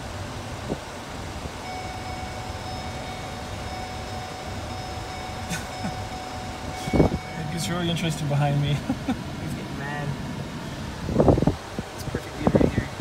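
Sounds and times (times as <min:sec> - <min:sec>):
faint steady whine: 0:00.0 - 0:13.0
vehicle idling low rumble: 0:00.0 - 0:13.0.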